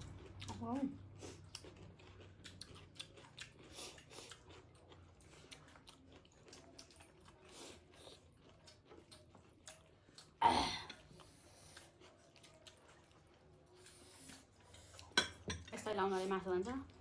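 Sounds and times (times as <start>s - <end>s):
faint chewing: 0.0s - 17.0s.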